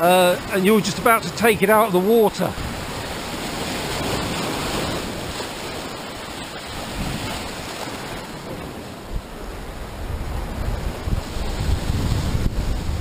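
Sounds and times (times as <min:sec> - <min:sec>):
waves washing over rocks: 0:00.0 - 0:13.0.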